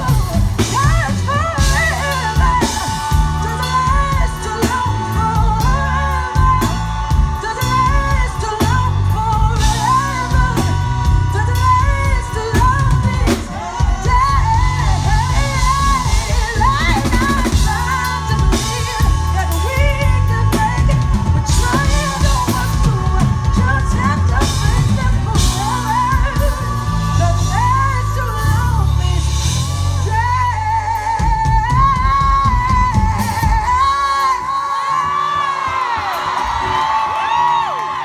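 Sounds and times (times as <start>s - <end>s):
woman singing soulfully: 0.0s - 36.2s
backing singers: 0.0s - 38.0s
live band drums and bass: 0.0s - 38.0s.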